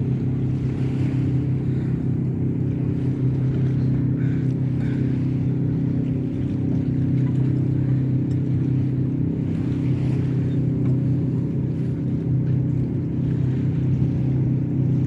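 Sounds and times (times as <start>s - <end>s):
outboard motor running: 0.0s - 15.0s
water noise: 0.0s - 15.0s.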